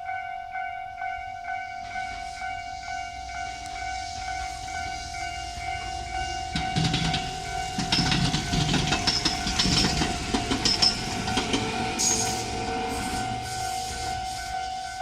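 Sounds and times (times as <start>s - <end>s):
level-crossing warning bell: 0.0s - 15.0s
train wheels clattering: 1.6s - 15.0s
high wheel squeals: 1.8s - 15.0s.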